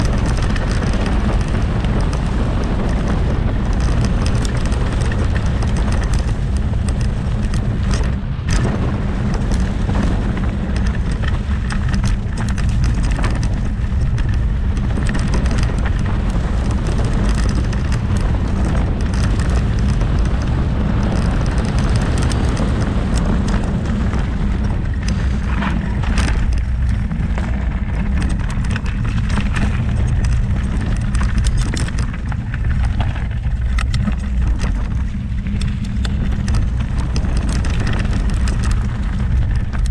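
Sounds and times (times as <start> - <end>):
bike clicks and rattles: 0.0 - 39.9
bike tyre noise on gravel: 0.0 - 39.9
wind rumbling on microphone: 0.0 - 39.9.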